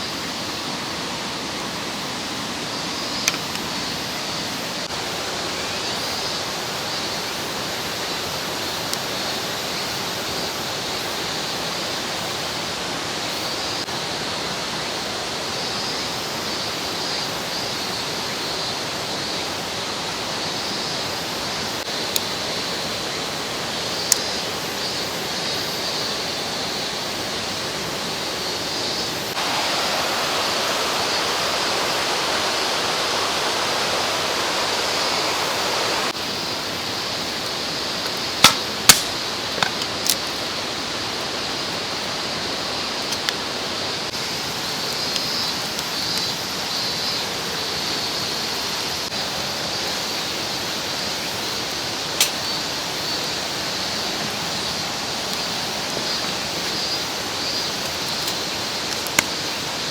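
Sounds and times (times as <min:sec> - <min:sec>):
stream rushing: 0:00.0 - 0:59.9.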